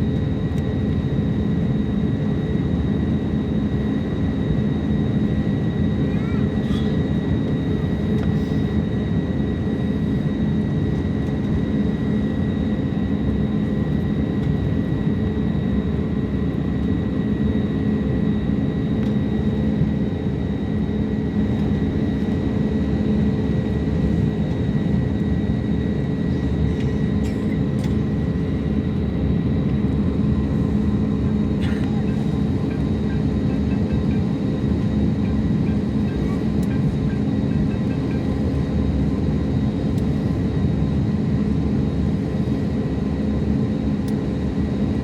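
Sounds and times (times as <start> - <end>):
jet airliner rumble: 0.0 - 45.0
jet engine high whine: 0.0 - 45.0.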